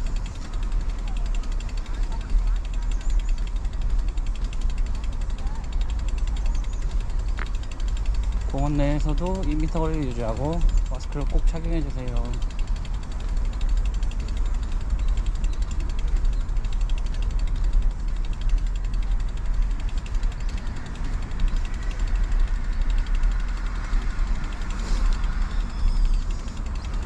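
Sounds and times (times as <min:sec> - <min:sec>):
bicycle freewheel ticking: 0:00.0 - 0:27.0.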